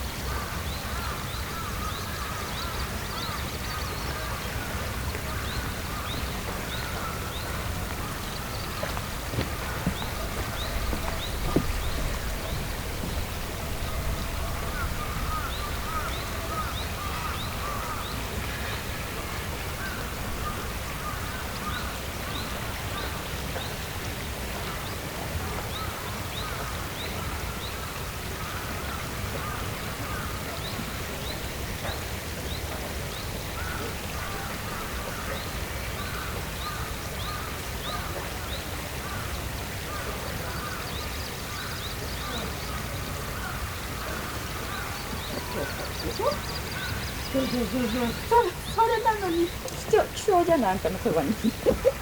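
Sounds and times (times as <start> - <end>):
birds calling: 0.0 - 52.0.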